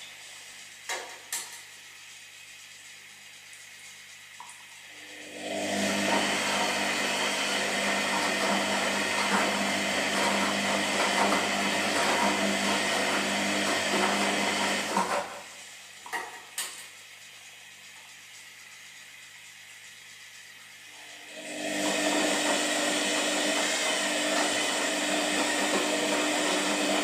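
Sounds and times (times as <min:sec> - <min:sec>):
washing machine motor churning: 0:00.0 - 0:27.0.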